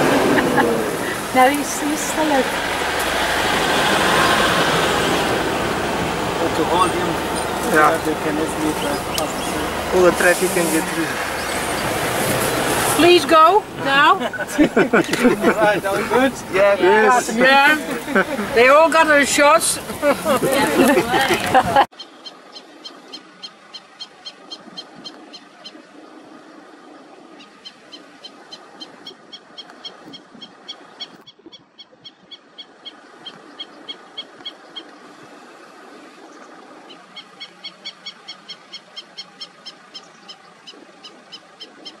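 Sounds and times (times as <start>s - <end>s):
faint outdoor background: 0.0s - 42.0s.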